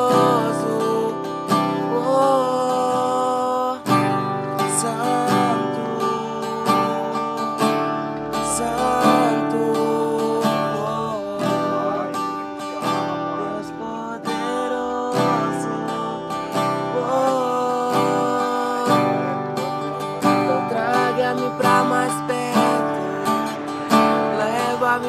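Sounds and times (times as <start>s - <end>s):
acoustic guitar strumming chords: 0.0s - 25.0s
man singing: 0.0s - 25.0s.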